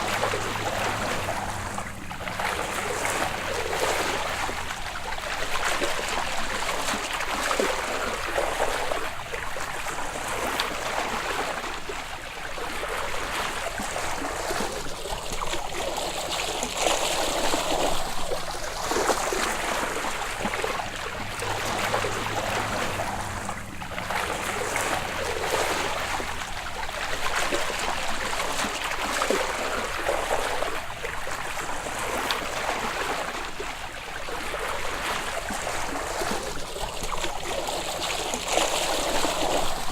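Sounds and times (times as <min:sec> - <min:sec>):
water sloshing and lapping: 0:00.0 - 0:39.9.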